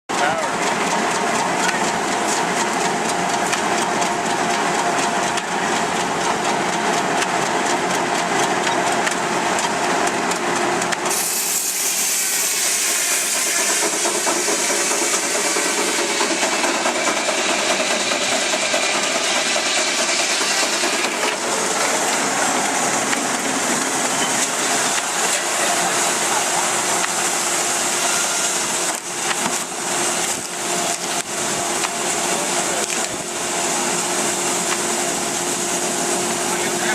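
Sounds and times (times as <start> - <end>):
steam engine hissing: 0.1 - 36.9.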